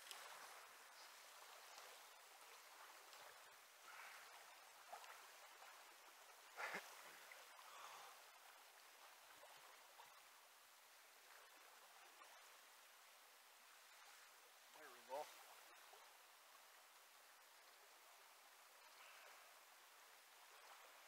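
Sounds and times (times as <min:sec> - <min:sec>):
river current over rocks: 0:00.0 - 0:21.0.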